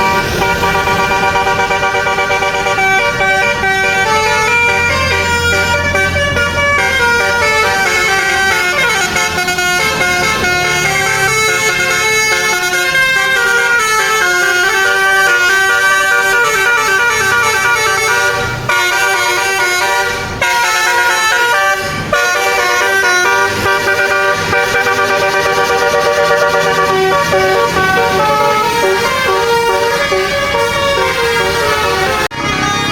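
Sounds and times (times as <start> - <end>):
bus musical horn melody: 0.0 - 32.9.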